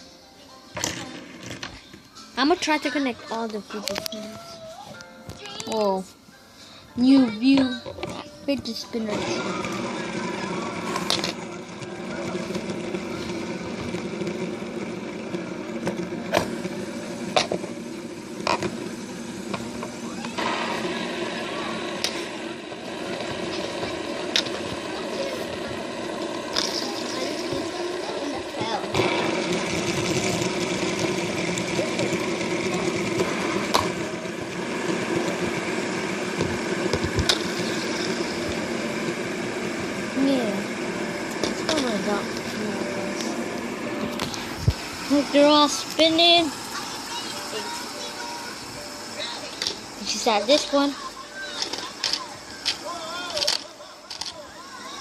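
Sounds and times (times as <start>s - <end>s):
fidget spinners whirring: 0.7s - 6.2s, 6.9s - 55.0s.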